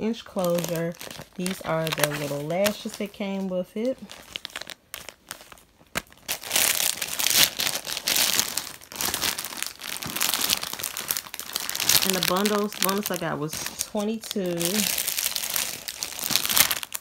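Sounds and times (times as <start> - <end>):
plastic packaging crinkling: 0.1 - 17.0.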